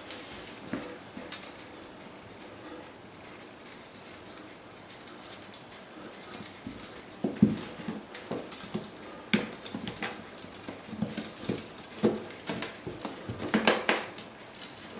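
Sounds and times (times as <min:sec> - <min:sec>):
kittens scuffling on tiled floor: 0:00.0 - 0:14.9.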